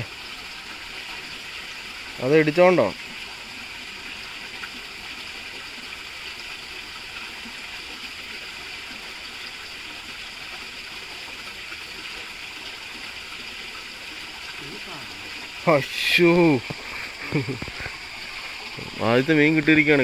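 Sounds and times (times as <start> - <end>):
water pouring and splashing: 0.0 - 20.0.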